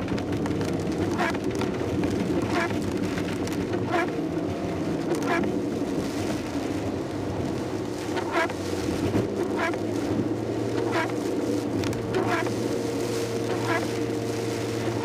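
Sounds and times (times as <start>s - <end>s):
car engine humming: 0.0s - 15.0s
rain on car: 0.0s - 15.0s
tyres on wet road: 0.0s - 15.0s
windscreen wipers swishing: 0.0s - 15.0s.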